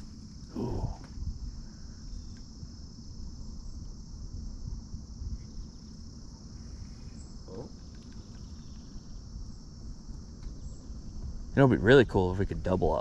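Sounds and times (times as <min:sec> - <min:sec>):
insects droning: 0:00.0 - 0:13.0
low uneven rumble: 0:00.0 - 0:13.0.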